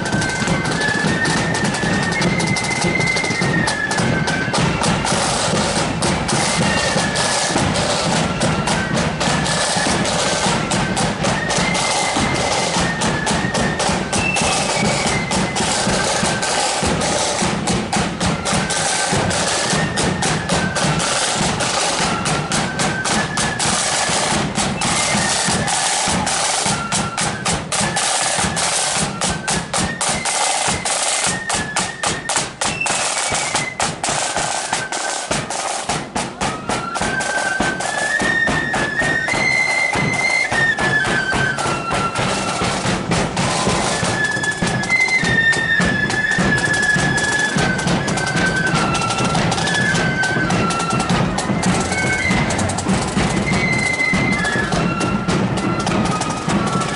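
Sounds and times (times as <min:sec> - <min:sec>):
flutes playing melody: 0:00.0 - 0:56.9
side-drum rolls: 0:00.0 - 0:56.9.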